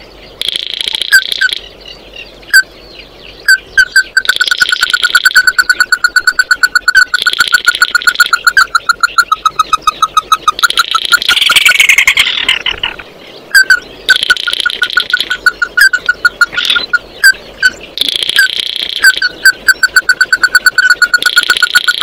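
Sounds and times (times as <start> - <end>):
crake calling: 0.3 - 22.0.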